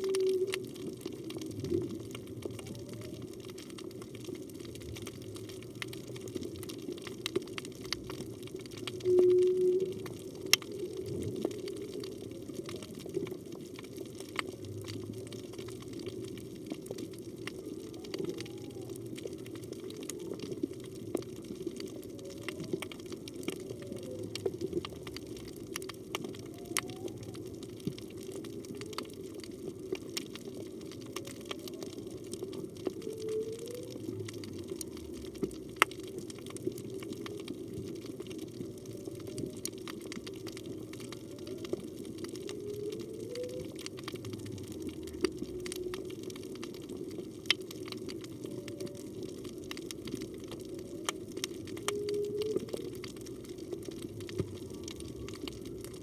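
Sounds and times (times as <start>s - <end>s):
whale song underwater: 0.0s - 56.0s.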